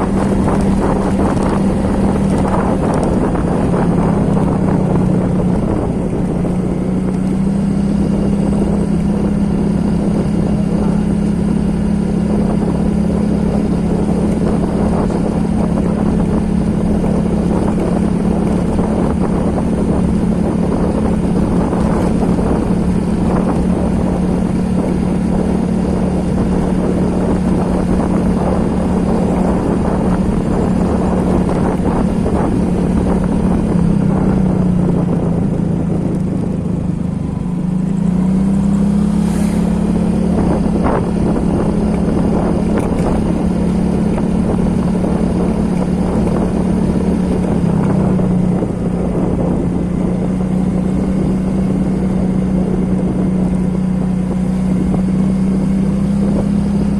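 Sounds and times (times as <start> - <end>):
small engine running: 0.0 - 56.9.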